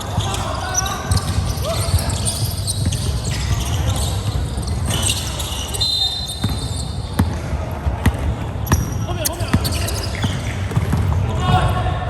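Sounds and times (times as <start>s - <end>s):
basketball bouncing on court: 0.0s - 5.3s, 6.3s - 11.7s.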